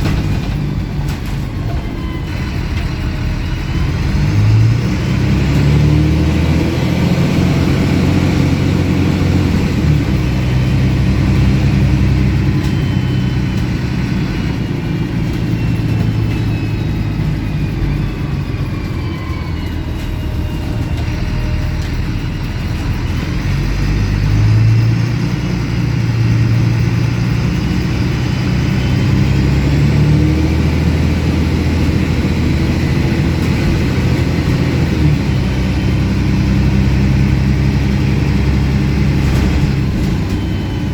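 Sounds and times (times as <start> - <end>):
bus diesel engine accelerating: 0.0 - 40.9.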